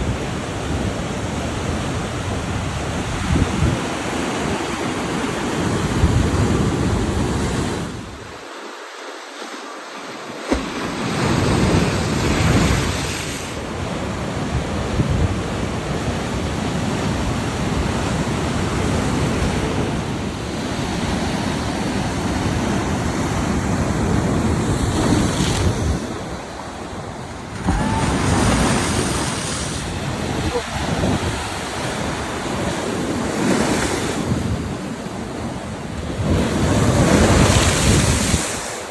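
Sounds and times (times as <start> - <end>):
wind buffeting microphone: 0.0 - 8.4, 10.6 - 38.7
ocean surf breaking on shore: 0.0 - 38.9.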